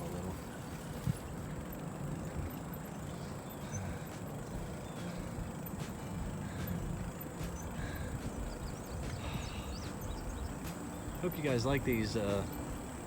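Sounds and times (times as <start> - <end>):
bicycle tyres rolling on trail: 0.0 - 13.0
faint bike clicks: 0.0 - 13.0
wind rumble on microphone: 0.0 - 13.0.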